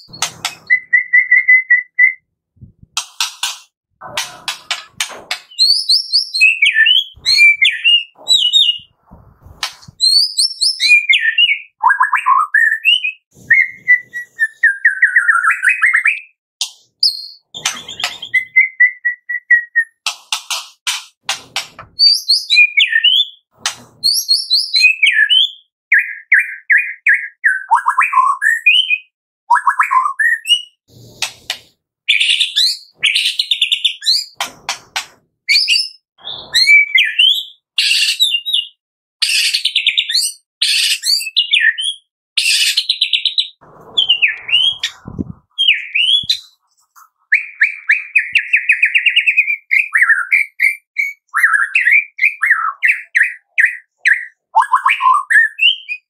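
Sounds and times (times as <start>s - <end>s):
bird singing whistles and trills: 0.0s - 2.3s, 5.5s - 9.0s, 9.9s - 16.4s, 17.0s - 20.0s, 22.0s - 30.8s, 32.1s - 34.4s, 35.5s - 46.6s, 47.3s - 56.0s.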